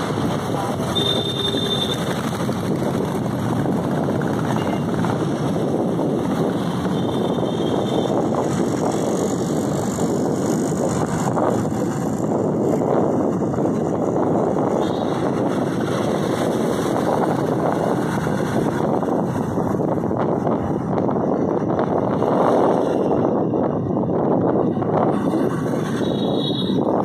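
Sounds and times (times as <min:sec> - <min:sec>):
engine and tyre rumble: 0:00.0 - 0:27.0.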